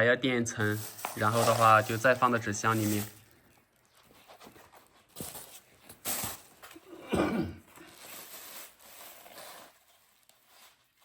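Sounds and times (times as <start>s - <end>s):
packing material rustling: 0.5s - 6.8s, 7.7s - 11.0s.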